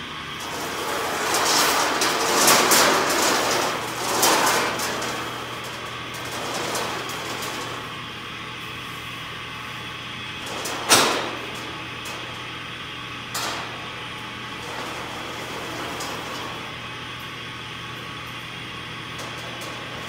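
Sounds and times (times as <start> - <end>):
steady shop hum: 0.0 - 20.0.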